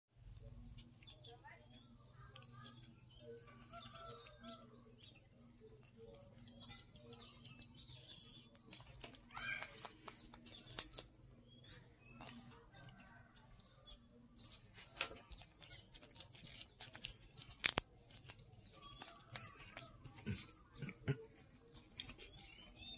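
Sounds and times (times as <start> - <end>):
bird-like chirps: 0.2 - 22.9
cats chewing and licking: 0.2 - 22.9.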